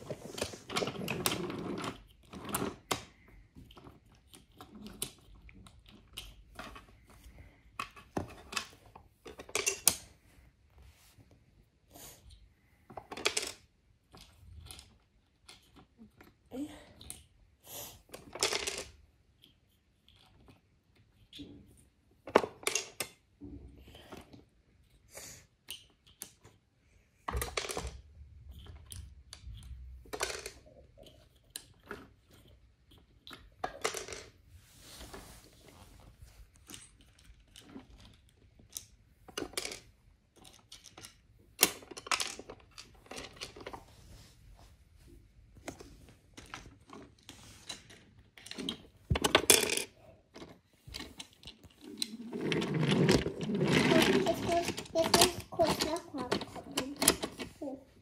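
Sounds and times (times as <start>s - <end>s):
wooden toy trains clicking and knocking: 0.0s - 10.2s, 12.2s - 34.4s, 36.5s - 43.9s, 45.6s - 58.0s.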